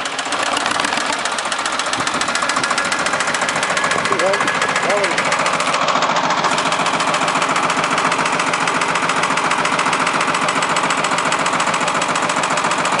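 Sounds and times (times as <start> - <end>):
backhoe engine knocking: 0.0 - 13.0.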